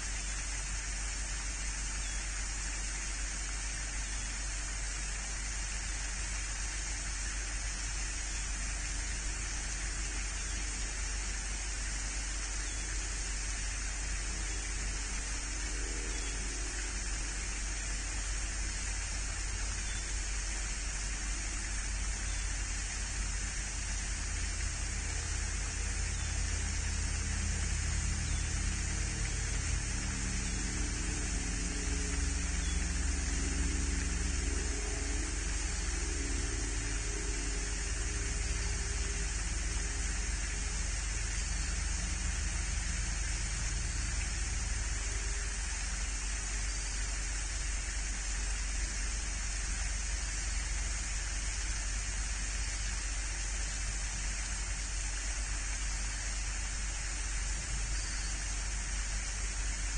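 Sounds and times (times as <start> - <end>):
low hum: 0.0 - 59.9
steady hiss: 0.0 - 59.9.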